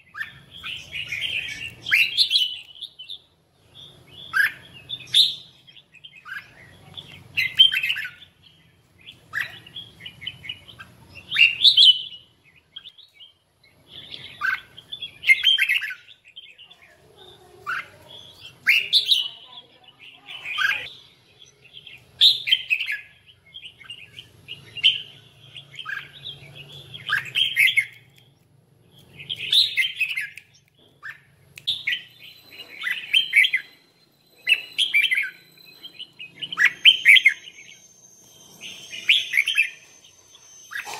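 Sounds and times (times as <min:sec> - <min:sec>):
bird singing warbling phrases: 0:00.0 - 0:40.9.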